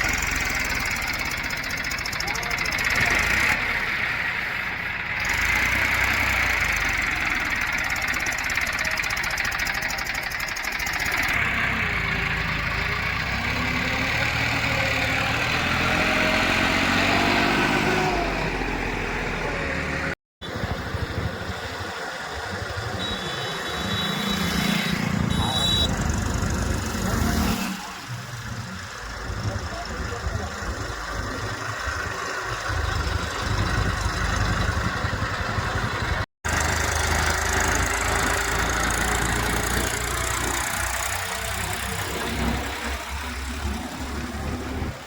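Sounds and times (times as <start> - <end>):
diesel engine running: 0.0 - 27.4, 28.0 - 45.0.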